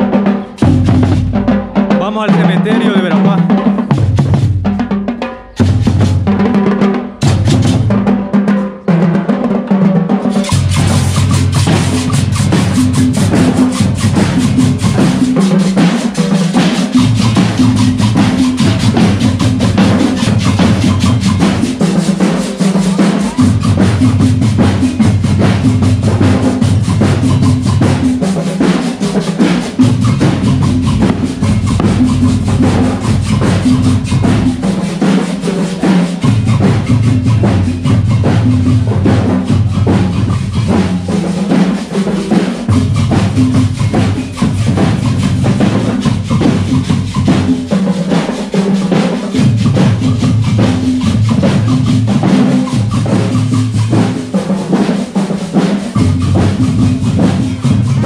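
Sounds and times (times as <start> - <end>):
marching band playing: 0.0 - 58.0
snare and bass drums: 0.0 - 58.0.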